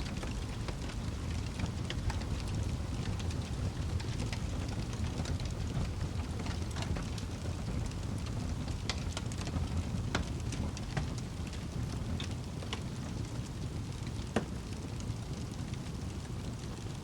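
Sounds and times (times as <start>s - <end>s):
fire crackling and popping: 0.0s - 17.0s
low rumble of burning fire: 0.0s - 17.0s.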